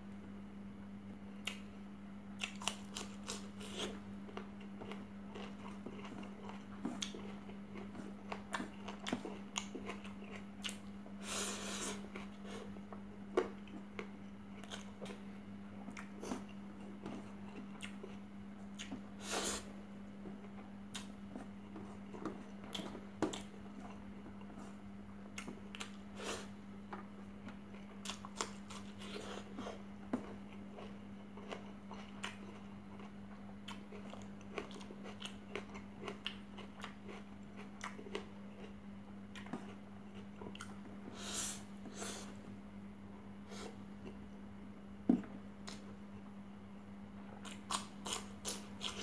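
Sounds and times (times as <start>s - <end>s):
steady low hum: 0.0s - 49.0s
person chewing food: 2.4s - 15.2s, 15.8s - 42.4s, 47.3s - 49.0s.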